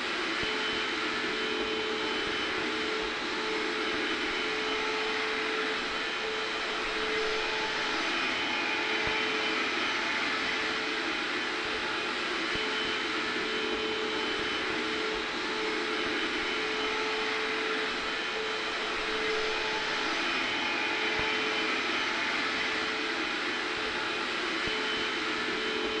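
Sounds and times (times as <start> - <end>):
hair dryer blowing: 0.0 - 26.0
vacuum cleaner running: 0.0 - 26.0.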